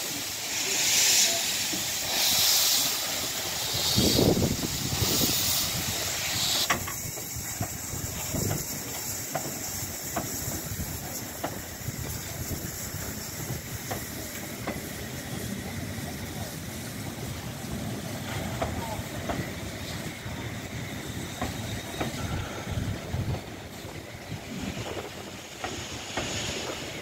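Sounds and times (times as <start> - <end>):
steam hissing from locomotive: 0.0 - 27.0
train wheels clicking: 0.2 - 27.0.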